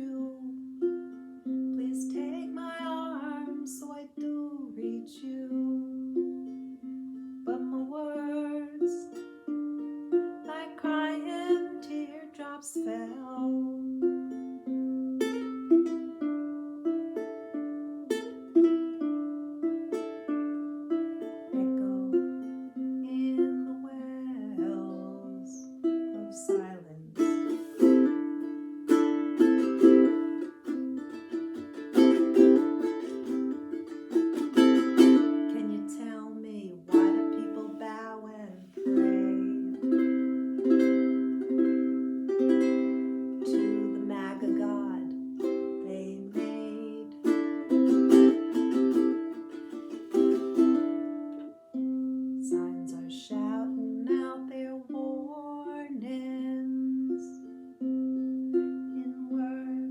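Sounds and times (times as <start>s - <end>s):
ukulele plucked chords and melody: 0.0s - 59.9s.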